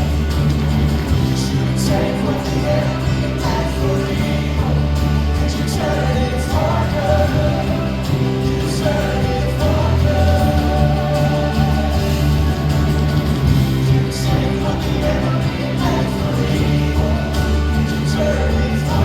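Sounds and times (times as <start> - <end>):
worship band music with singing: 0.0 - 19.0.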